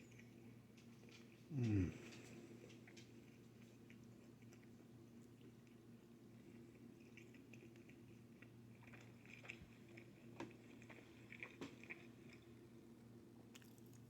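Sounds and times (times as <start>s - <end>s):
low steady hum: 0.0s - 14.0s
chewing with mouth smacks: 0.1s - 14.0s.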